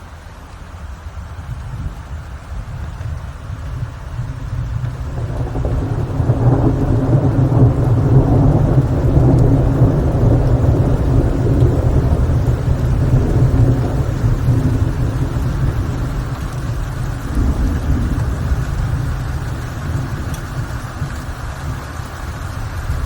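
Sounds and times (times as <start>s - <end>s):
steady rain: 0.0s - 23.0s
rolling thunder rumble: 1.1s - 23.0s.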